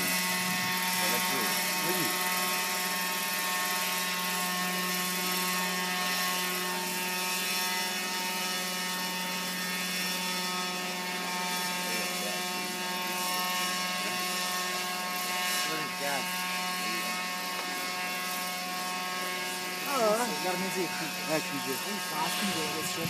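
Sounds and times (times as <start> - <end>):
model helicopter whine: 0.0 - 23.0.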